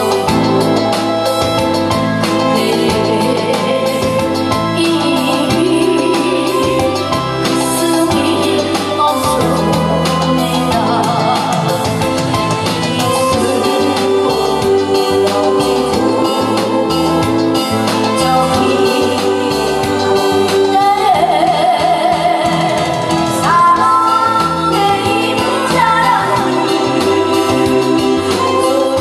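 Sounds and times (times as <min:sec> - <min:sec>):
backing music with beat and bass: 0:00.0 - 0:29.0
woman singing with vibrato: 0:02.2 - 0:29.0.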